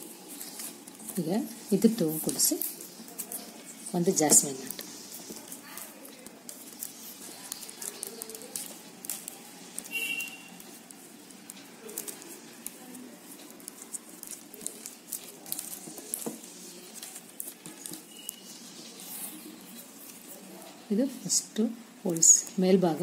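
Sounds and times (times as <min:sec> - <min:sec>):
plastic wire rustling and clicking: 0:00.0 - 0:20.8.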